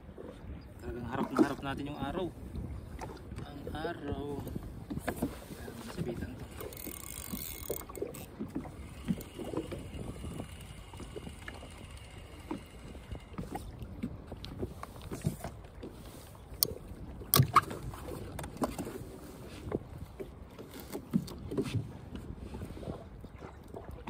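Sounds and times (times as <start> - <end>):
water lapping against boat hull: 0.0 - 24.0.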